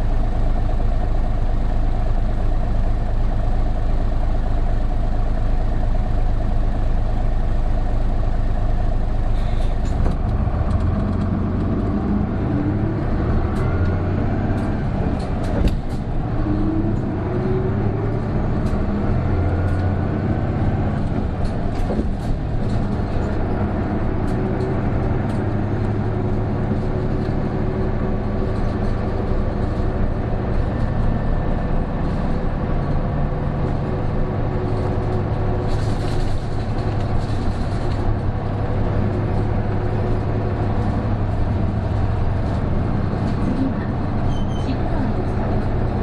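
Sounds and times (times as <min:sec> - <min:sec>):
bus diesel engine droning: 0:00.0 - 0:46.0
road noise: 0:00.0 - 0:46.0.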